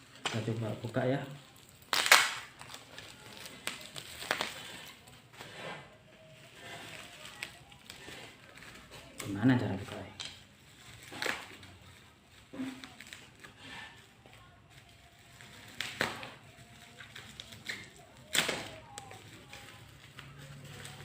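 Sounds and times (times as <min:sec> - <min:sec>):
packaging clicks and rustles: 0:00.0 - 0:21.0.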